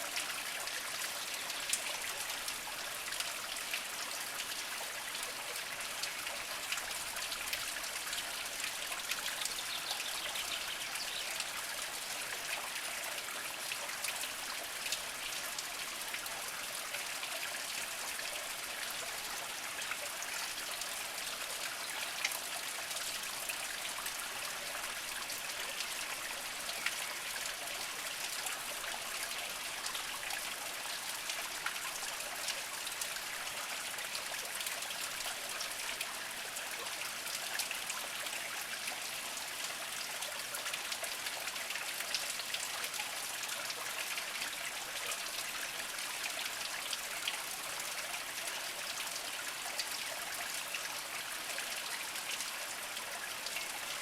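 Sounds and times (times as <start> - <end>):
water trickling over rocks: 0.0 - 54.0.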